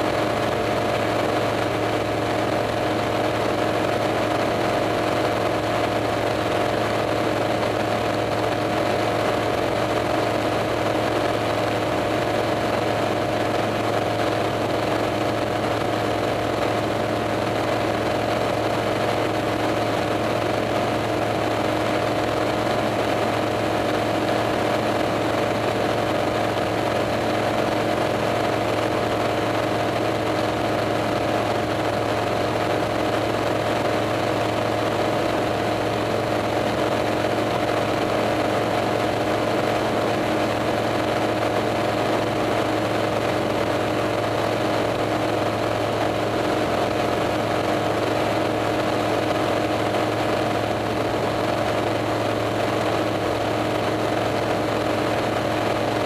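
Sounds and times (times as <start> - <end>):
airplane engine and propeller droning: 0.0 - 56.0.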